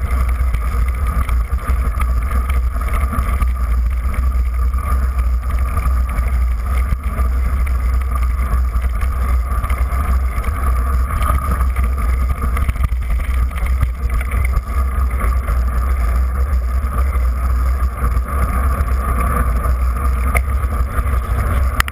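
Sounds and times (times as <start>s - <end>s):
bike tyre and trail vibration: 0.0s - 21.9s.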